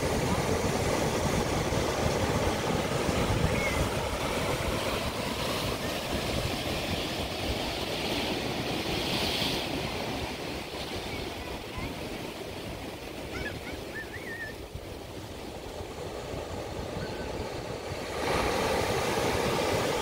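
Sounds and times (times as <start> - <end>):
ocean surf washing: 0.0 - 20.0
wind rumbling on microphone: 0.0 - 20.0.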